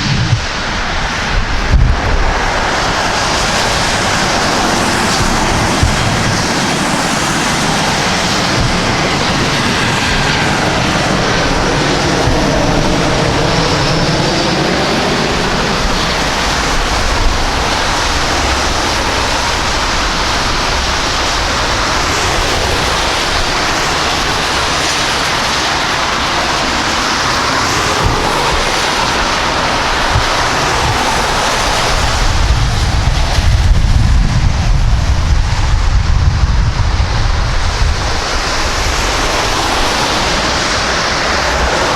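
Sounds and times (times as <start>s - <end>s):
deep rumble: 0.0s - 41.9s
jet engines roaring: 0.0s - 41.9s.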